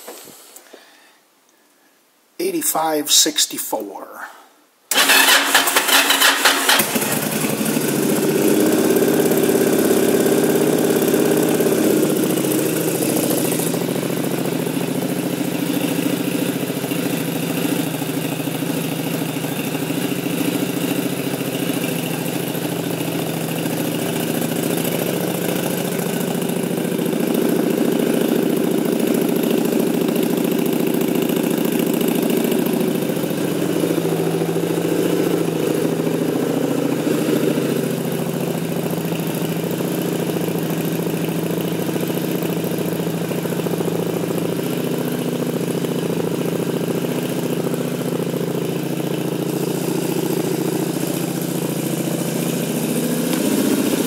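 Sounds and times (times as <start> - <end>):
motorcycle engine idling: 4.9 - 54.0.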